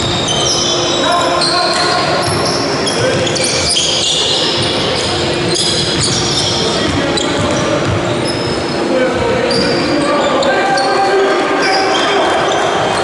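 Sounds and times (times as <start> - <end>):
players' voices: 0.0 - 13.0
sneakers squeaking: 0.0 - 13.0.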